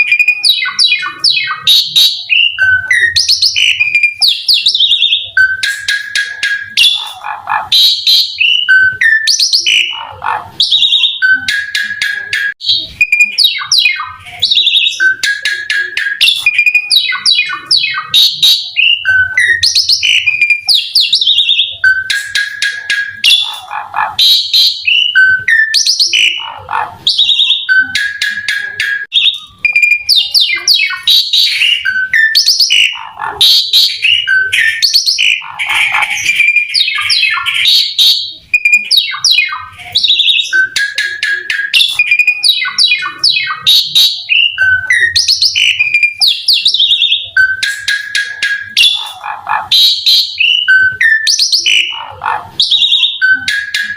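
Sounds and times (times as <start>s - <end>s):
starling singing: 0.0s - 53.9s.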